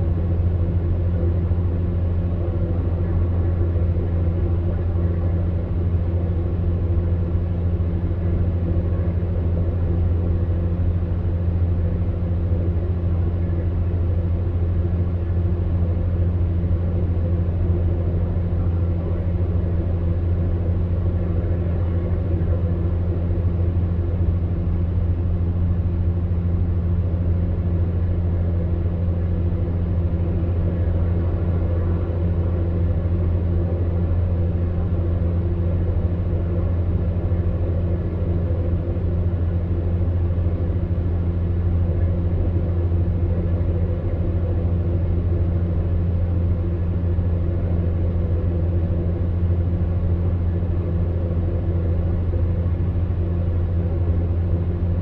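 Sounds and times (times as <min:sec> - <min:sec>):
fan heater humming: 0:00.0 - 0:55.0.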